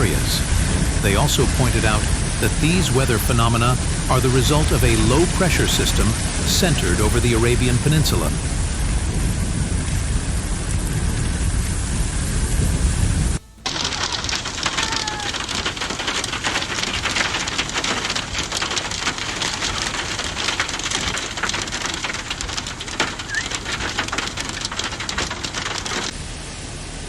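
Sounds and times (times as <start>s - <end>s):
heavy rain on hard surface: 0.0s - 27.0s.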